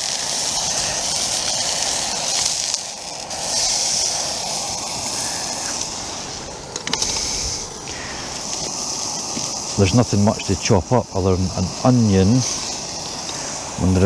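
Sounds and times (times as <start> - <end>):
burger sizzling in a pan: 0.0 - 14.0
gas stove flame burning: 0.0 - 14.0.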